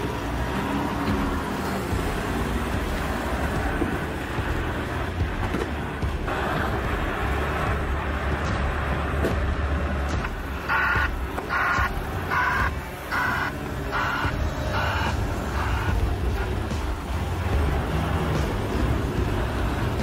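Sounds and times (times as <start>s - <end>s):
diesel engine under load: 0.0s - 20.0s
rushing noise: 0.0s - 20.0s.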